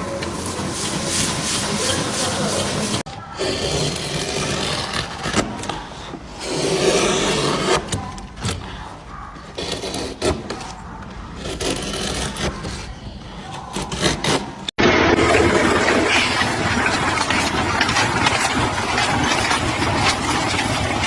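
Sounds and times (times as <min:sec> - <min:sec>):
chisel scraping wood: 0:00.6 - 0:08.7, 0:09.4 - 0:14.7, 0:15.8 - 0:21.0.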